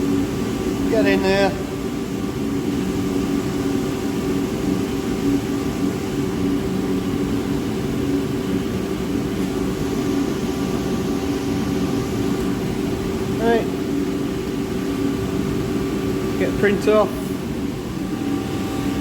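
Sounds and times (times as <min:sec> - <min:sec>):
boiler fan and flame drone: 0:00.0 - 0:19.0
constant tonal hum: 0:00.0 - 0:19.0.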